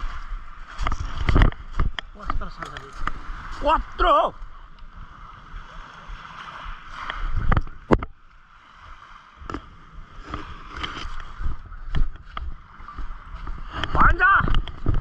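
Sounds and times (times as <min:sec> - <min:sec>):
water at the shore: 0:00.0 - 0:15.0
wind: 0:00.0 - 0:15.0.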